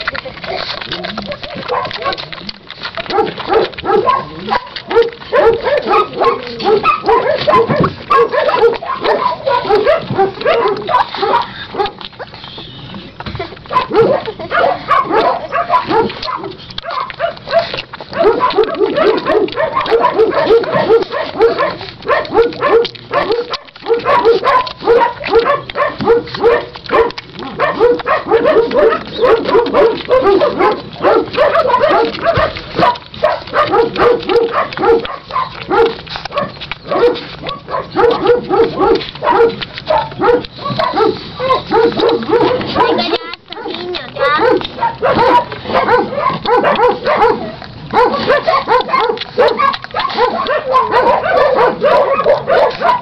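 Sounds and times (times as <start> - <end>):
puppies squeaking and grunting: 0.0 - 53.0.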